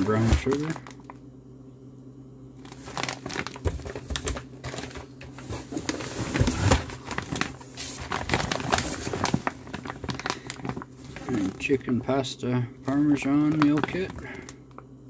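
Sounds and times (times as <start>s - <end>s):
plastic pouches crinkling: 0.0s - 1.2s, 2.6s - 14.8s.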